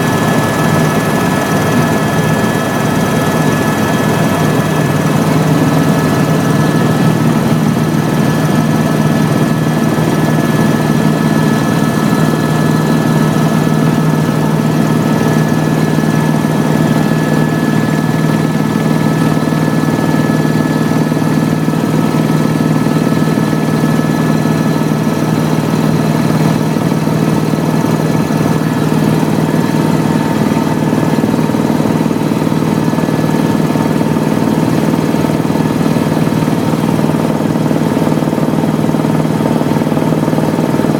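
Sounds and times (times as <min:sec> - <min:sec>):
thin steady whine: 0:00.0 - 0:38.3
helicopter engine and rotor drone: 0:00.0 - 0:40.9.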